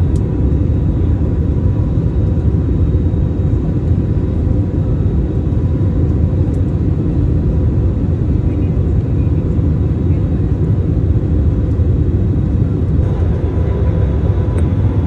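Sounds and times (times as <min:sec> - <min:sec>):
airliner cabin engine roar: 0:00.0 - 0:15.0.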